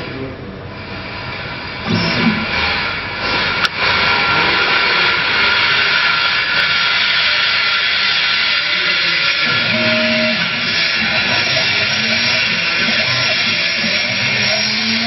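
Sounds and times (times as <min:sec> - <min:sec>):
router spindle whining: 0:00.7 - 0:15.0.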